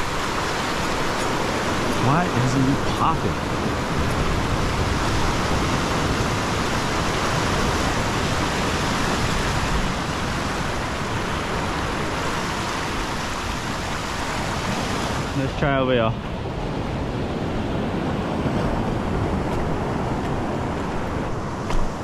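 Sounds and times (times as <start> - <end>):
surf washing over rocks: 0.0 - 22.0.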